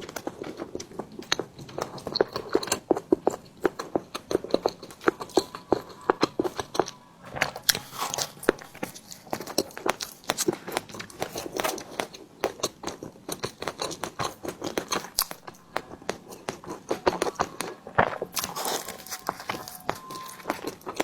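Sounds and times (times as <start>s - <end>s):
chewing with mouth clicks: 0.0s - 21.0s.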